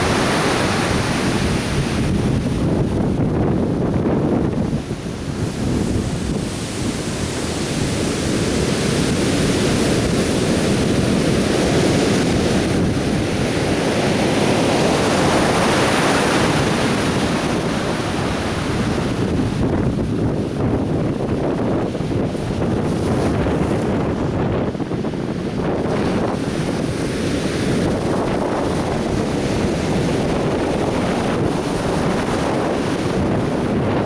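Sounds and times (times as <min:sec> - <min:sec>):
surf breaking on a beach: 0:00.0 - 0:34.0.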